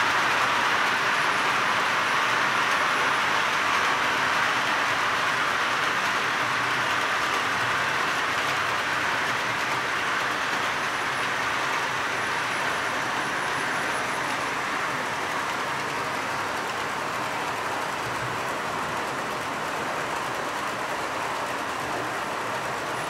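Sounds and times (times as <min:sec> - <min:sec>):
model train wheels rattling: 0:00.1 - 0:23.0.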